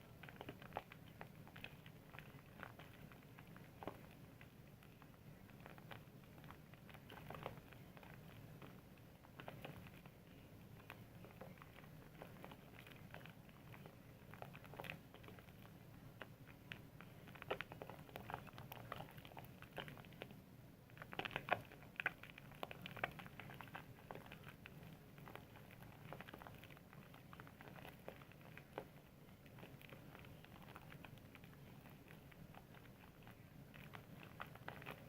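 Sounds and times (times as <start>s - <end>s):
wet crackling of soap suds: 0.0s - 35.0s.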